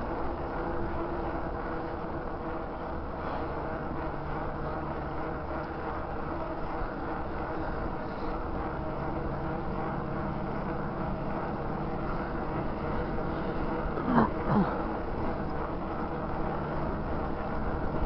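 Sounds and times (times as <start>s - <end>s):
bicycle tyres on asphalt: 0.0s - 18.0s.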